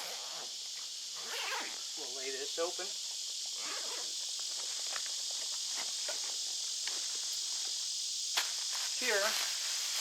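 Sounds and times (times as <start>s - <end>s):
high insect buzz: 0.0s - 10.0s.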